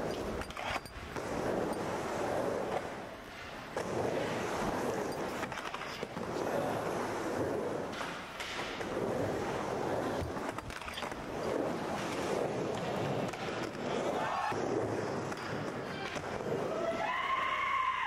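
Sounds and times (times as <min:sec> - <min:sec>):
skateboard wheels rolling on ramp: 0:00.0 - 0:18.0.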